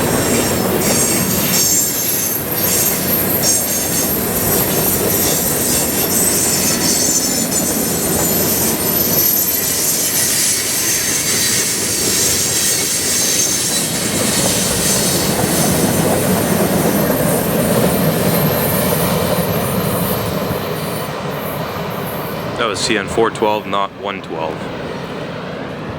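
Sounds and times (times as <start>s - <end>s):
wheel squeal: 0.0s - 22.5s
train wheels rumbling on rail: 0.0s - 23.6s.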